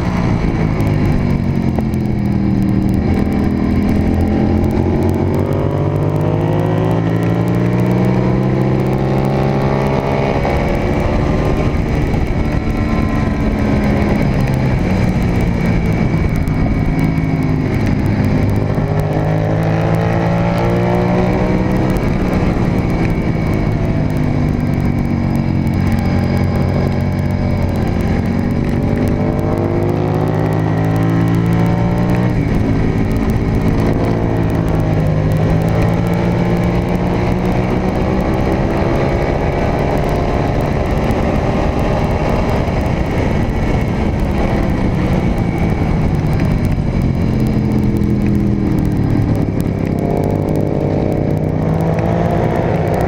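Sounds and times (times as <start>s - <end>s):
motorcycle engine at full speed: 0.0s - 53.0s
wind rush on microphone: 0.0s - 53.0s.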